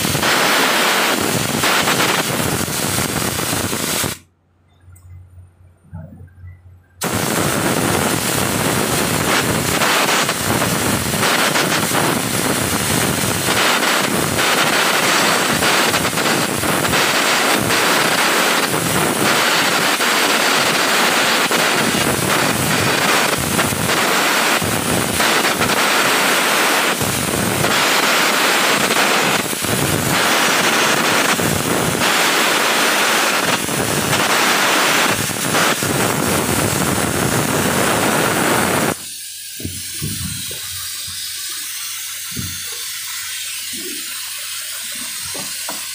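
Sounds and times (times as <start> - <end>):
arc welding hissing crackle: 0.0 - 4.3, 7.0 - 45.9.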